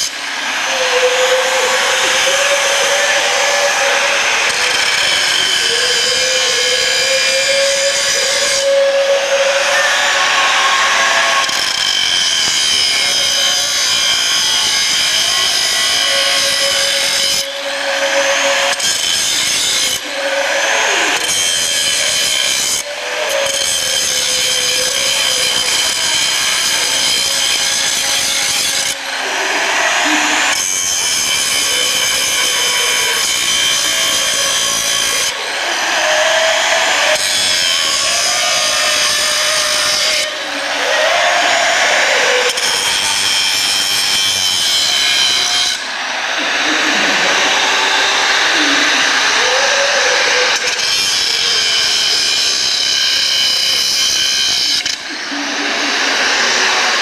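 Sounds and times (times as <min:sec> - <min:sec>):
angle grinder grinding steel: 0:00.0 - 0:57.0.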